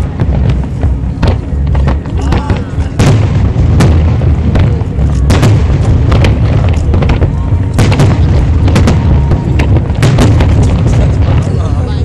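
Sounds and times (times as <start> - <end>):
firework shells booming: 0.0 - 12.0
sharp firework cracks: 0.0 - 12.0.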